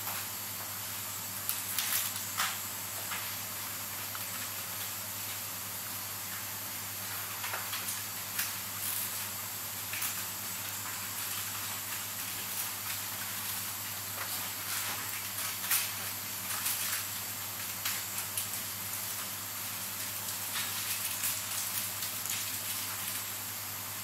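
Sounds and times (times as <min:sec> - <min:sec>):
room noise hiss: 0:00.0 - 0:24.0.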